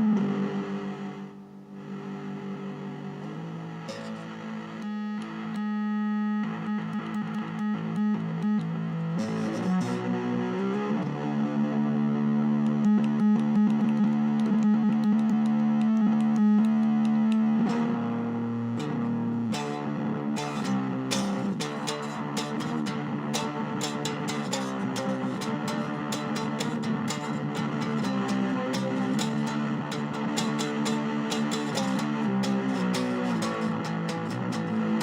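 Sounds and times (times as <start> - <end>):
distorted electric guitar stuttering: 0.0 - 35.0.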